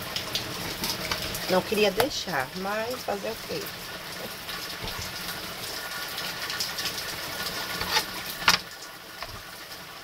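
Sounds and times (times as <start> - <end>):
heavy rain hissing: 0.0 - 10.0.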